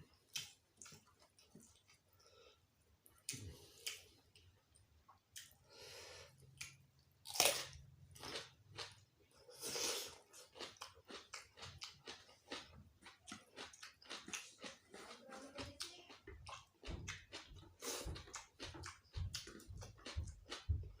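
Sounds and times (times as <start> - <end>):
person chewing crunchy food: 3.0 - 15.3, 16.0 - 21.0.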